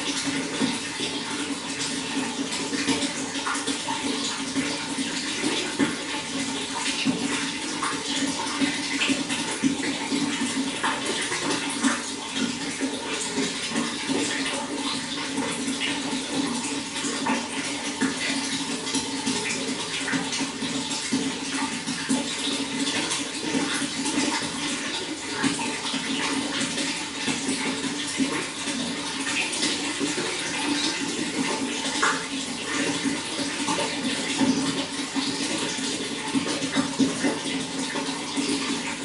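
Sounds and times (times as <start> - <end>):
running water rushing: 0.0 - 39.0
water splashes and drips: 0.0 - 39.0.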